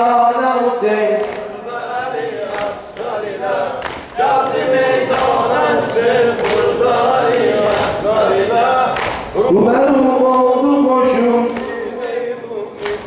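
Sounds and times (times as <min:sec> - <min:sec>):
men singing unaccompanied: 0:00.0 - 0:13.0.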